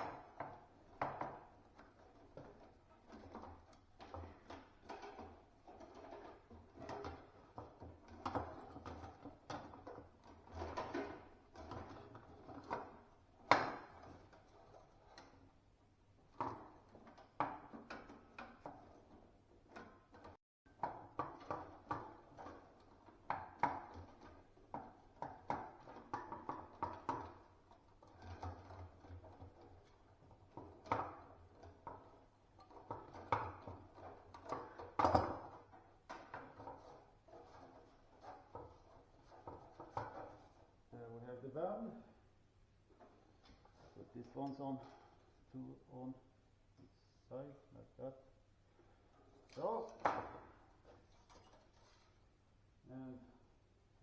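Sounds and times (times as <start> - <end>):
awning fittings knocking and clicking: 0.0 - 40.9, 42.8 - 45.7, 48.7 - 52.3.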